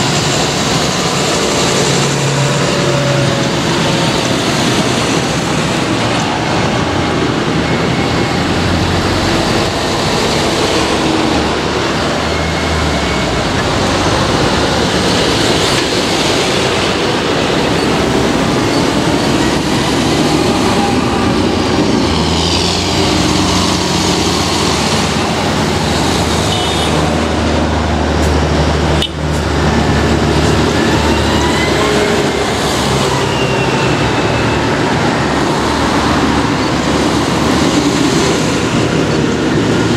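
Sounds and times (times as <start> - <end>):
diesel traffic driving past: 0.0 - 39.9.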